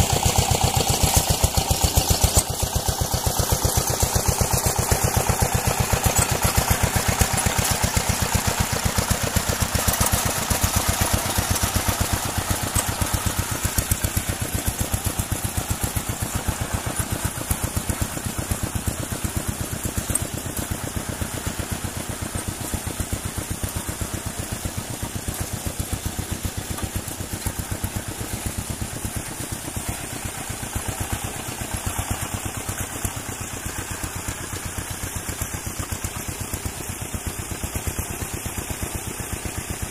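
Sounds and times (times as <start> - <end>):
engine running with rapid pulse: 0.0 - 39.9.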